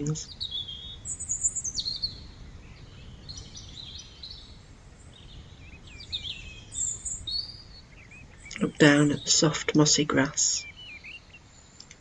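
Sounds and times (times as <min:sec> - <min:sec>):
faint low rumble: 0:00.0 - 0:12.0
songbirds chirping: 0:00.0 - 0:12.0.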